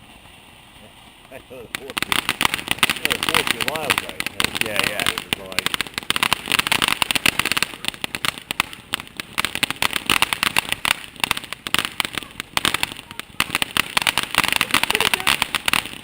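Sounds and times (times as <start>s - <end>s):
firework crackling: 0.0s - 16.0s.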